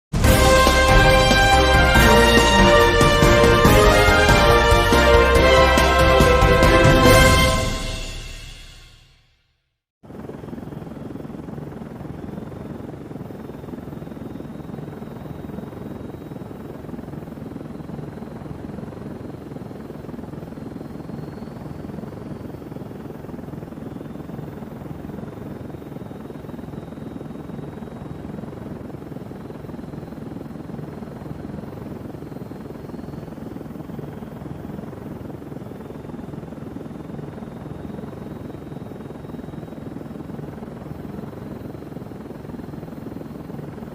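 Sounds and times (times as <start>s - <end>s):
helicopter rotor and engine: 0.2s - 8.8s, 10.0s - 43.9s.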